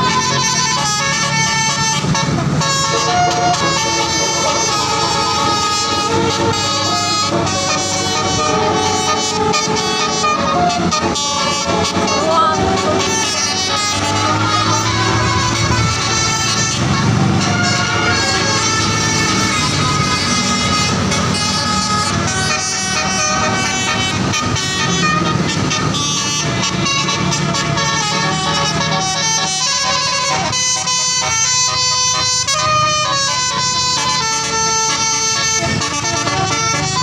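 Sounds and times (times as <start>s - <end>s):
low engine rumble: 0.0s - 37.0s
multi-tone musical bus horn: 0.0s - 37.0s.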